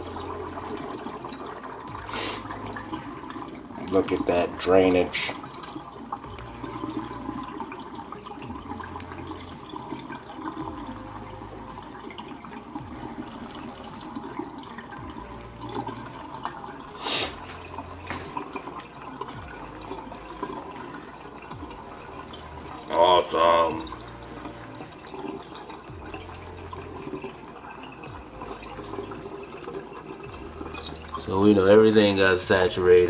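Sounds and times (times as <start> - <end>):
water trickling from plant pot: 0.0 - 33.0.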